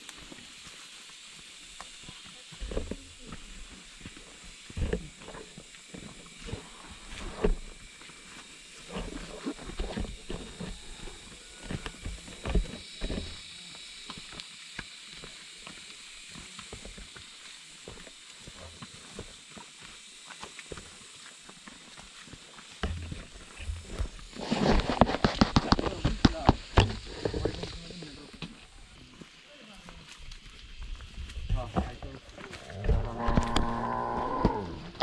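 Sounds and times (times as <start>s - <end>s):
footsteps on hill trail: 0.0s - 35.0s.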